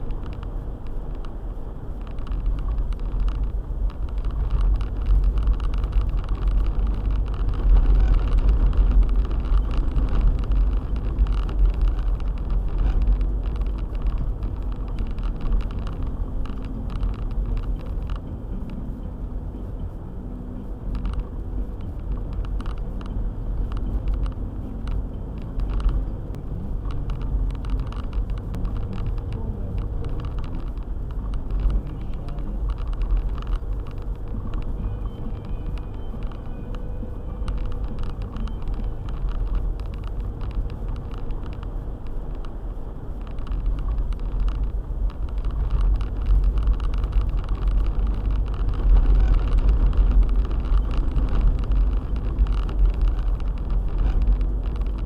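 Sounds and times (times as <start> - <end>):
car engine and tyres rumbling: 0.0 - 55.0
faint ticks: 0.0 - 55.0.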